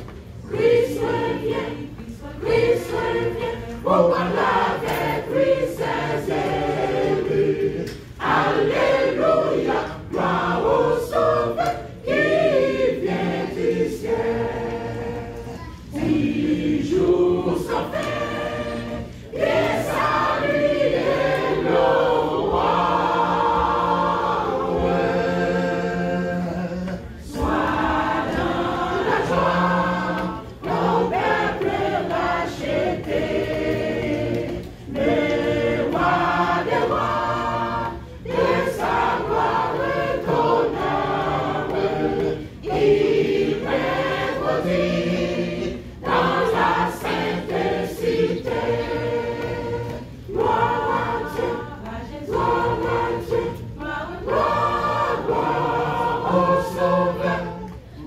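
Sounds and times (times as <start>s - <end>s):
choir singing gospel: 0.0s - 58.0s.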